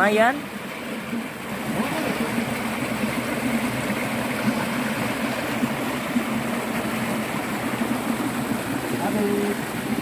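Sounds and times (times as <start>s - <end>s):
water pouring into a pool: 0.0s - 10.0s.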